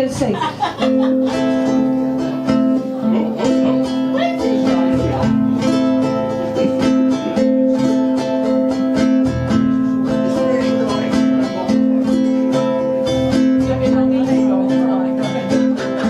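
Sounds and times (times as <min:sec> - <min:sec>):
ukuleles strumming chords: 0:00.0 - 0:16.0.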